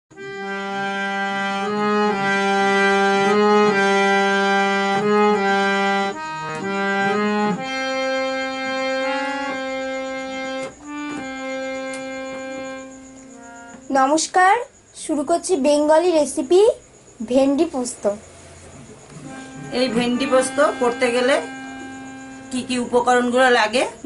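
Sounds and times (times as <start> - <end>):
accordion-like slow melody: 0.1 - 14.8, 18.2 - 24.0.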